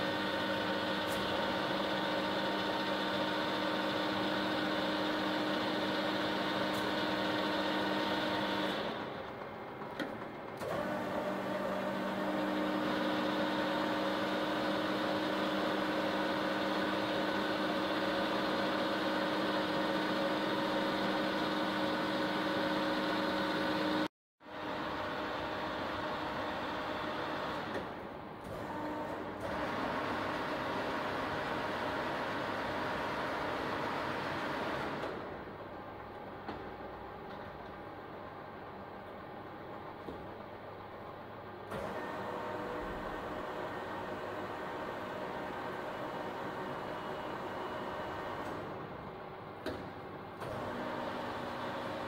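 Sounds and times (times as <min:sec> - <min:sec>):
milling machine humming and whining: 0:00.0 - 0:52.0.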